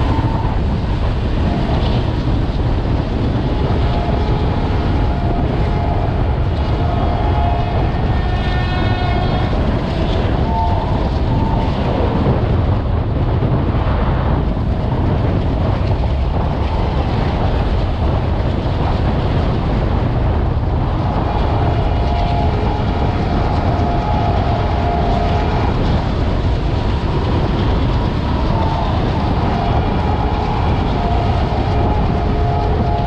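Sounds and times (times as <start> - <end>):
rushing noise: 0.0 - 33.0
train wheels rumbling on track: 0.0 - 33.0.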